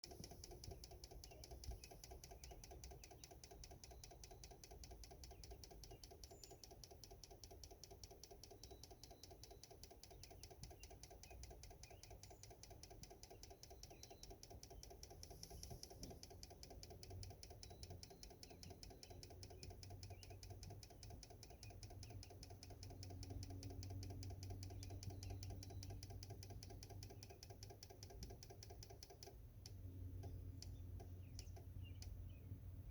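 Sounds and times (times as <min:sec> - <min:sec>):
faint rapid tapping: 0:00.0 - 0:32.2.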